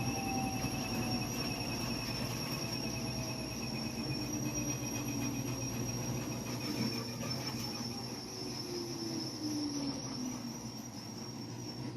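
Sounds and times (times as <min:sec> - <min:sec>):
high-pitched whistle: 0:00.0 - 0:11.9
washing machine running: 0:00.0 - 0:11.9.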